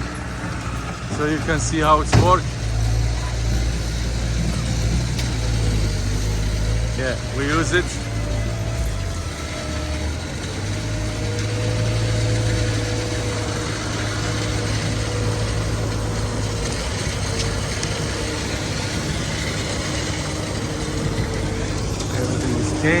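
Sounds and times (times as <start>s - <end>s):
continuous rush of noise: 0.0s - 23.0s
truck engine running: 0.0s - 23.0s.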